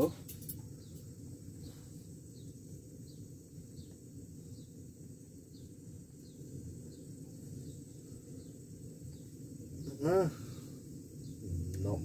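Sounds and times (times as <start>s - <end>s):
camping stove burning: 0.0s - 12.0s.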